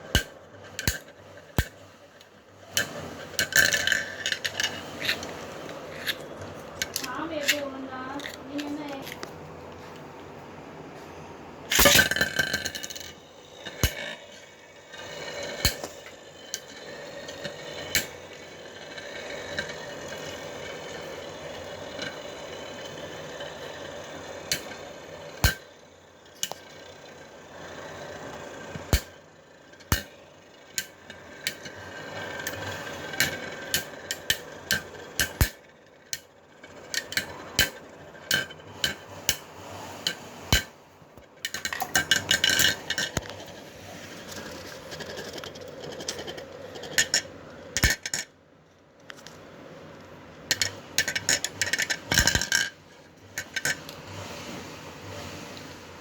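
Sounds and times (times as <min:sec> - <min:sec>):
spinning tops clicking as they strike: 0:00.0 - 0:09.4, 0:11.7 - 0:40.8, 0:41.4 - 0:43.6, 0:44.4 - 0:48.3, 0:50.5 - 0:54.0
spinning tops whirring: 0:00.0 - 0:09.8, 0:11.6 - 0:48.4, 0:50.2 - 0:56.0.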